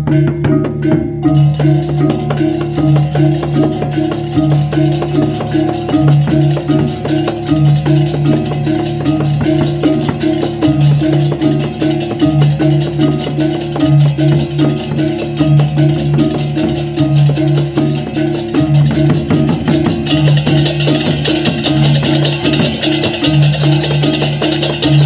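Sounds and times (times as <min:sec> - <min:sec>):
crashing hand cymbals: 0:00.0 - 0:25.0
drums: 0:00.0 - 0:25.0
gongs and gong-chimes: 0:00.0 - 0:25.0.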